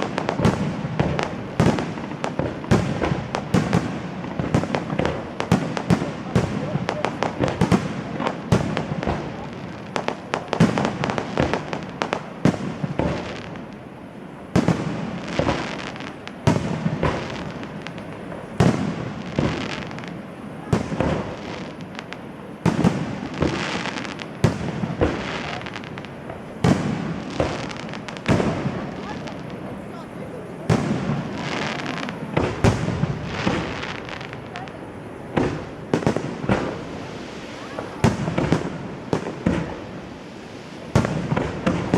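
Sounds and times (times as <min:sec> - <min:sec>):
fireworks crackling and fizzing: 0:00.0 - 0:41.9.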